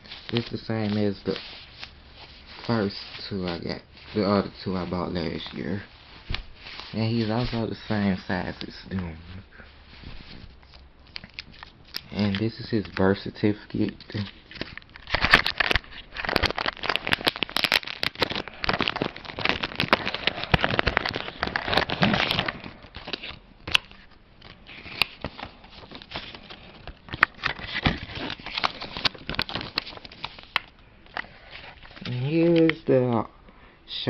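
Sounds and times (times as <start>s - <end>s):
paper crinkling and rustling: 0.0s - 32.8s.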